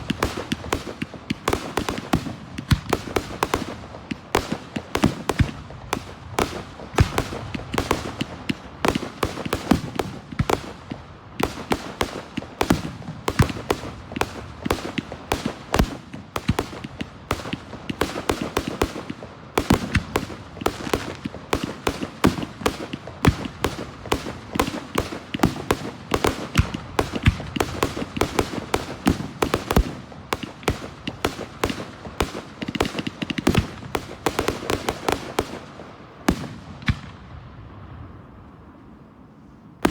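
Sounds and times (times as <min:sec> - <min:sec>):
fireworks bursting and crackling: 0:00.0 - 0:38.4.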